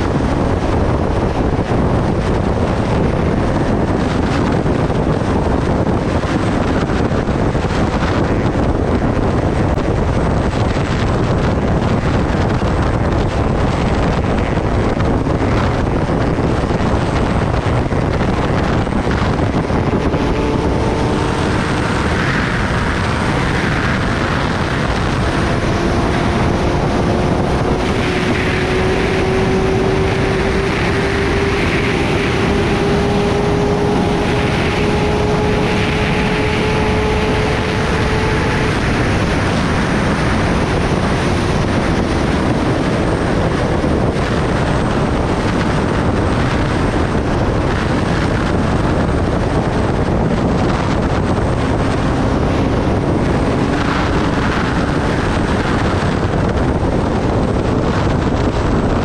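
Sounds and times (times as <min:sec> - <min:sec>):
motorcycle engine accelerating: 0:00.0 - 0:59.0
wind rushing over microphone: 0:00.0 - 0:59.0.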